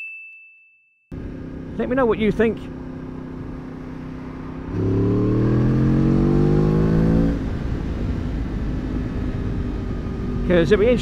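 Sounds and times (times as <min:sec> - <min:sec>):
motorcycle engine revving: 0:01.1 - 0:11.0.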